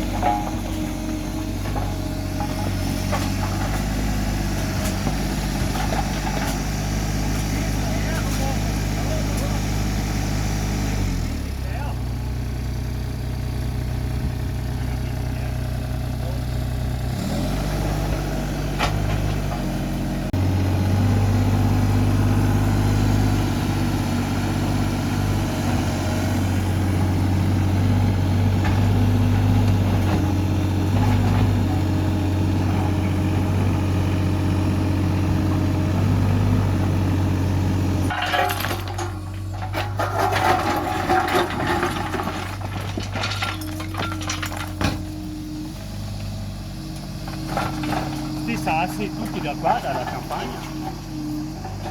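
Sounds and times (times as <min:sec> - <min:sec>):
heavy machine engine running: 0:00.0 - 0:51.9.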